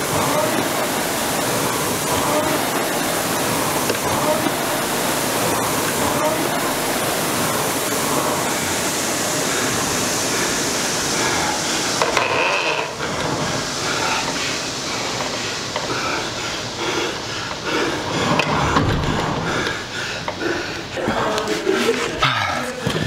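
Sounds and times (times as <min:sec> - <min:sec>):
rowing machine flywheel whirring: 0:00.0 - 0:23.0.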